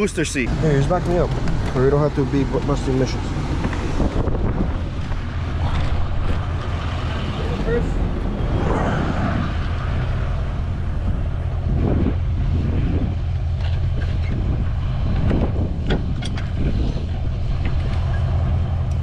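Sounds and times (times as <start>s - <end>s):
truck engine idling: 0.0s - 8.6s, 9.4s - 19.0s.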